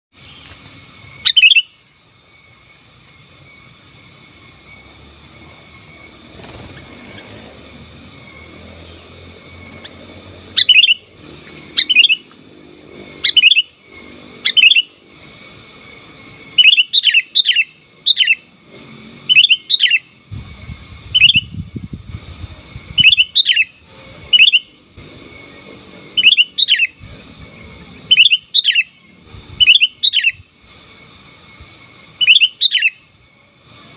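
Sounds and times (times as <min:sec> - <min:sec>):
bulbul singing: 0:00.2 - 0:33.5.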